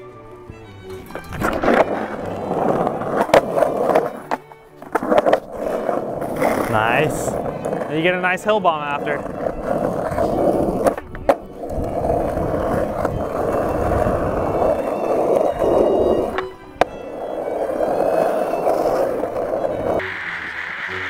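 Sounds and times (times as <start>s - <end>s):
music: 0.0s - 21.0s
skateboard wheels rolling on asphalt: 0.0s - 21.0s.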